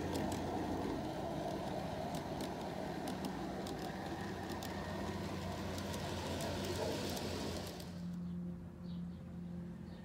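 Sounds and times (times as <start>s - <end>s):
model train wheels clicking: 0.0s - 8.2s
steady low hum: 0.0s - 10.0s.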